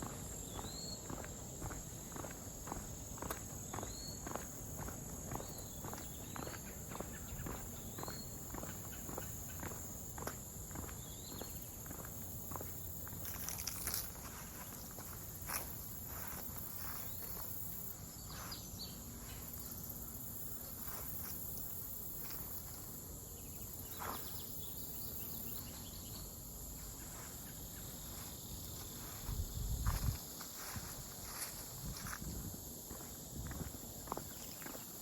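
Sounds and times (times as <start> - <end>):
footsteps on trail: 0.0 - 24.7, 25.4 - 35.0
insects chorus: 0.0 - 35.0.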